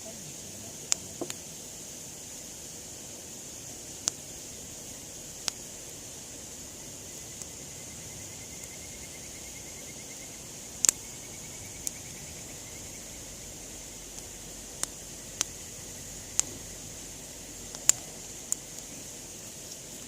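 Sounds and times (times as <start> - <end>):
campfire crackling and popping: 0.0 - 20.0
steady fire hiss: 0.0 - 20.0.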